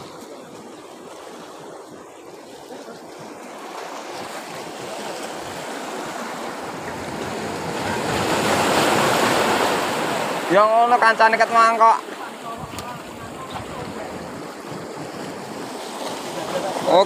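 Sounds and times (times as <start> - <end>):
sea waves surging against concrete: 0.0 - 17.0.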